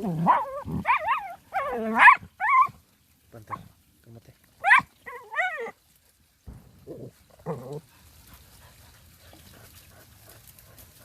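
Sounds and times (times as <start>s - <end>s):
faint scratching and rustling: 0.0s - 11.0s.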